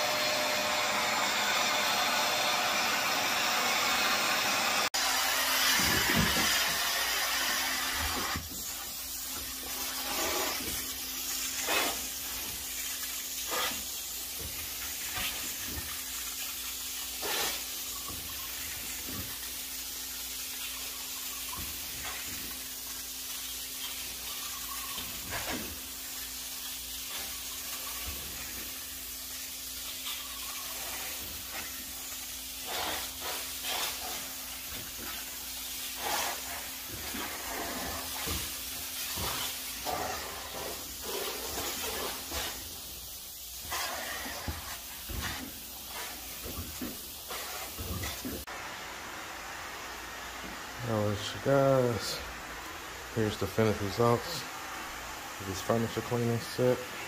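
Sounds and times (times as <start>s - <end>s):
upholstery vacuum tool hissing: 0.0s - 16.4s, 17.0s - 20.0s, 30.6s - 57.0s.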